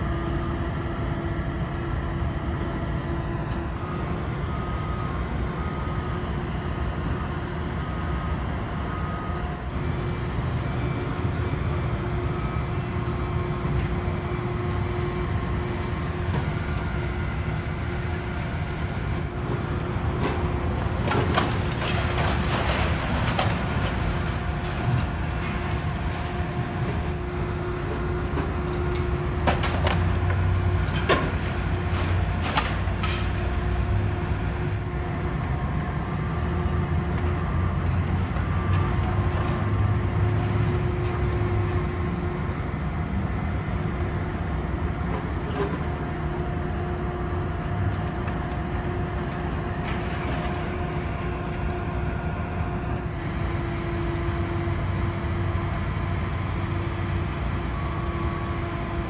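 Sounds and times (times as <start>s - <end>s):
diesel machinery rumble: 0.0s - 59.0s.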